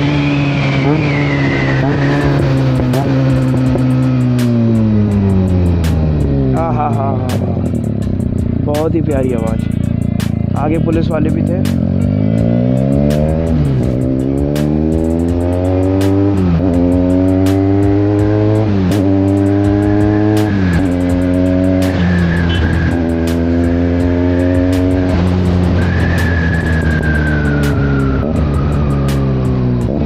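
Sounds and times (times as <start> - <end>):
motorcycle accelerating through gears: 0.0 - 8.7, 9.6 - 30.0.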